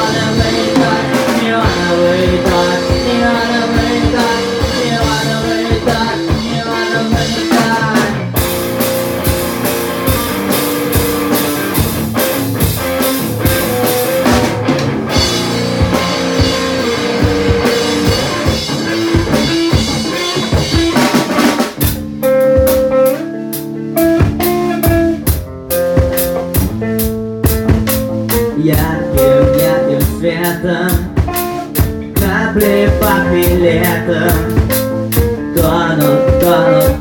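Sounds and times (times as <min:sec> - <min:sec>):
drum kit: 0:00.0 - 0:37.0
guitar: 0:00.0 - 0:37.0.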